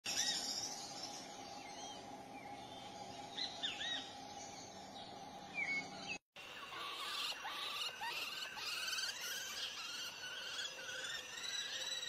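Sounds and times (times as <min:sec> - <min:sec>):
bird chirps: 0:00.1 - 0:12.0
steady background hiss: 0:00.1 - 0:12.0.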